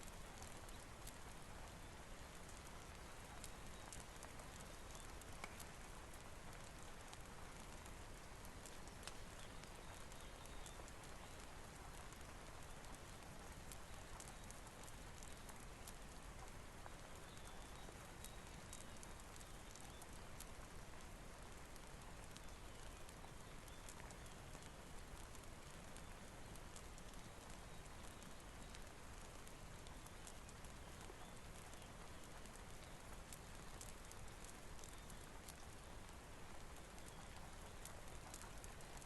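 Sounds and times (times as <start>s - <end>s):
faint rain hiss: 0.0s - 39.0s
wood fire crackling: 0.0s - 39.0s.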